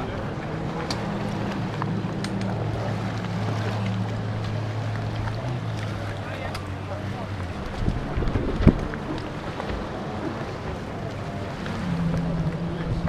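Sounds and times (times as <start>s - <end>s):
jet ski engine running: 0.0s - 13.0s.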